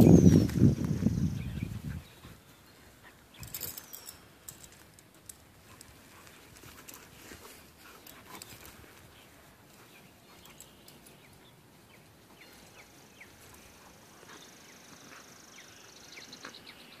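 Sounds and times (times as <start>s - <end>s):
animals scuffling on grass: 0.0s - 17.0s.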